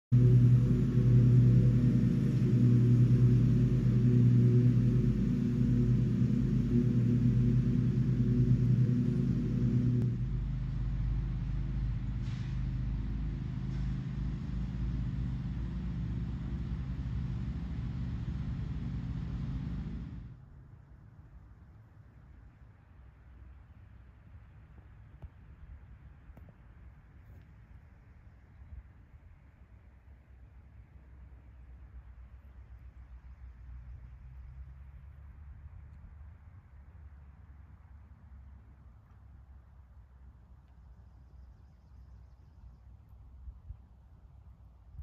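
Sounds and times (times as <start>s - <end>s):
low engine-like drone: 0.0s - 45.0s.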